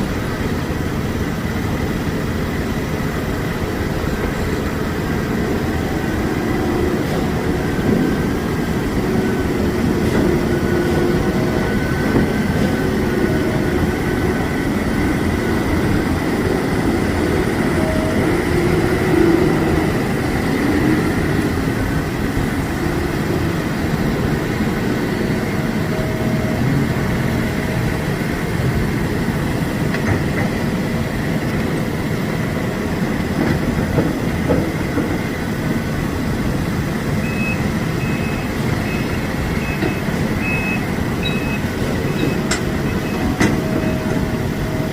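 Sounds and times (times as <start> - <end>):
diesel construction machinery running: 0.0 - 44.9.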